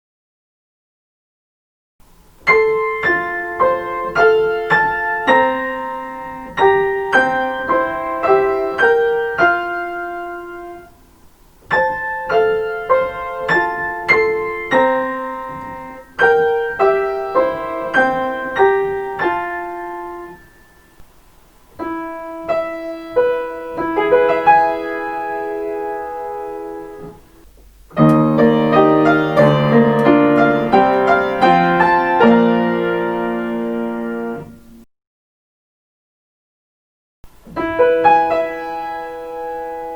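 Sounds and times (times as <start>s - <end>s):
solo piano melody: 2.1s - 34.9s, 37.3s - 39.9s.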